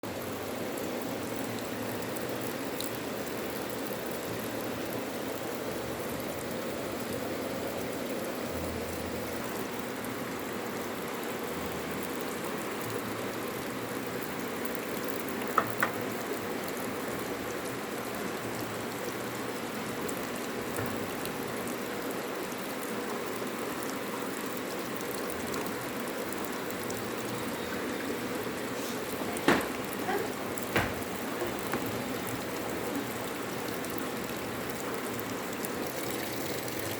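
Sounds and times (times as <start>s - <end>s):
washing machine running: 0.0s - 24.2s, 25.3s - 36.9s.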